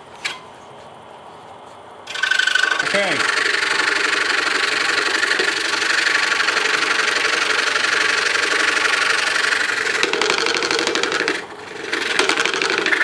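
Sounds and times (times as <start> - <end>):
scroll saw cutting wood: 2.1 - 13.0.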